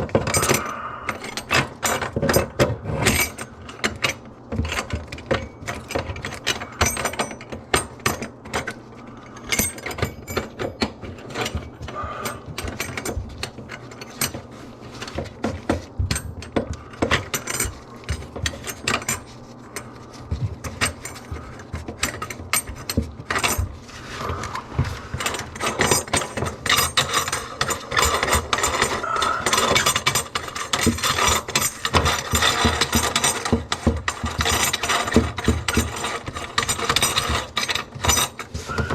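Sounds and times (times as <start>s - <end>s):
tools clicking and rattling: 0.0s - 38.9s.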